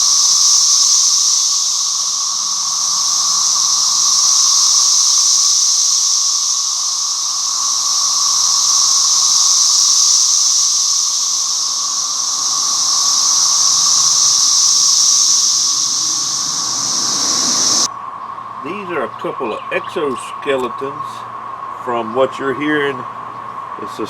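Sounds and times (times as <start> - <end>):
cicadas chorus: 0.0 - 24.0.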